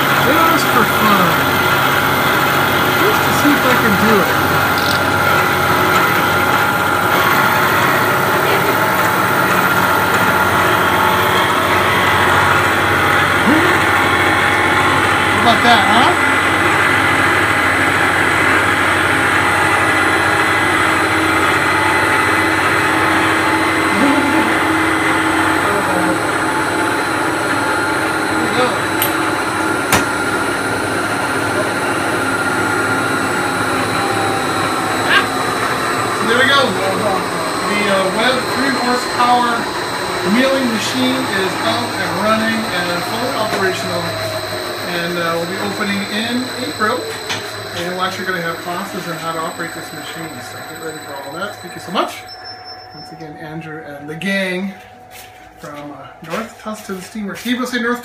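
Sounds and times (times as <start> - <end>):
milling machine cutting aluminum: 0.0 - 52.3.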